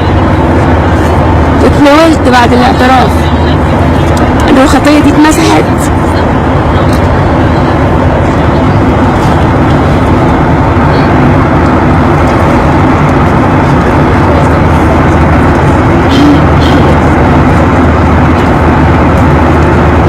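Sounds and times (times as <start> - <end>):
airliner cabin engine rush: 0.0 - 20.0
low hum: 0.0 - 20.0.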